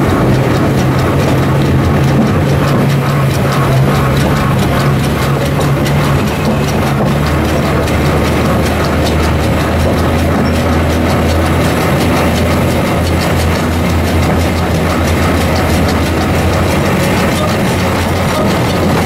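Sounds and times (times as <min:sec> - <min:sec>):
diesel engine humming: 0:00.0 - 0:19.0
faint ticking: 0:00.0 - 0:19.0.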